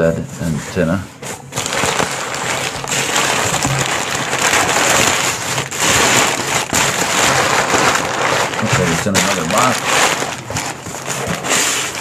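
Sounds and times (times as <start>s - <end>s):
packing paper rustling and crinkling: 1.2s - 12.0s.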